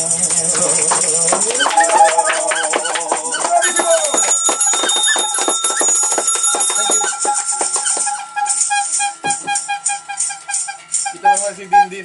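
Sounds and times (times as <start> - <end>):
shaker rattling: 0.0 - 11.6.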